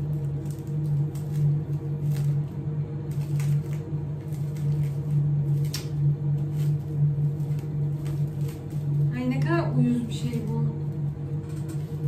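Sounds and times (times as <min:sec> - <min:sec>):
cling film crinkling: 0:00.0 - 0:12.0
steady low hum: 0:00.0 - 0:12.0.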